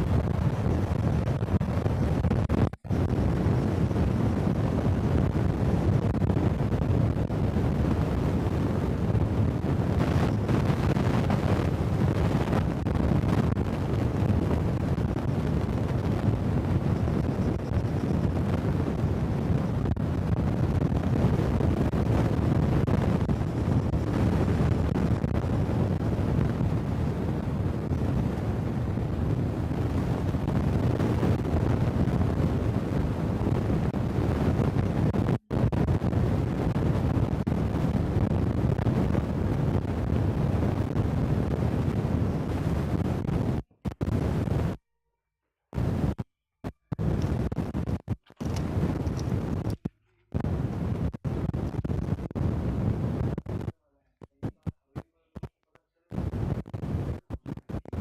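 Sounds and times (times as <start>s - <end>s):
wind on microphone: 0.0s - 44.8s, 45.8s - 54.6s, 56.1s - 58.0s.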